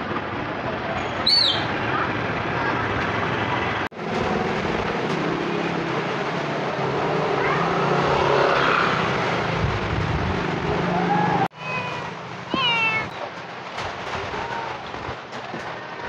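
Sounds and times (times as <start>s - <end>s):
motor traffic: 0.0s - 16.0s.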